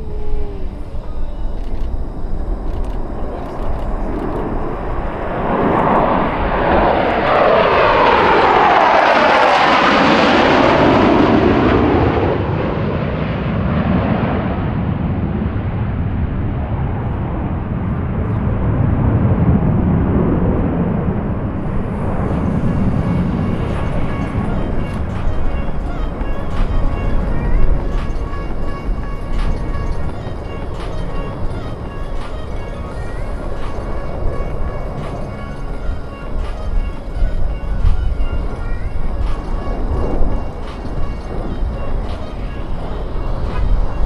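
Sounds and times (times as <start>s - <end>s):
jets flying past: 0.0s - 44.0s.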